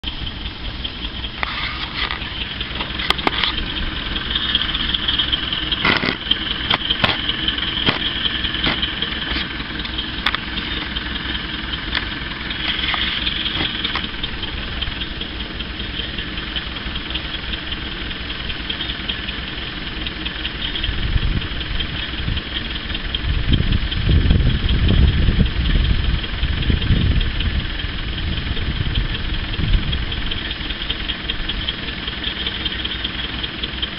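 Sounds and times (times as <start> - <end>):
heavy equipment engine idling: 0.0 - 33.9.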